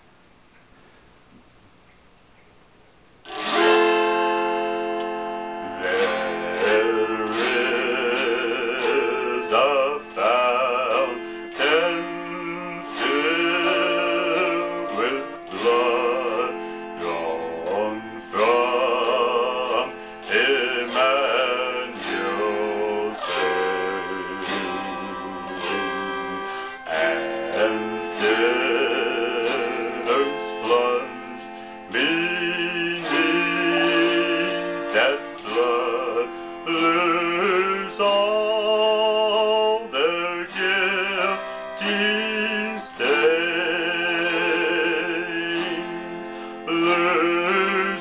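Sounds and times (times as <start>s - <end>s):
autoharp chords strummed: 3.2s - 48.0s
man singing slowly: 5.7s - 48.0s.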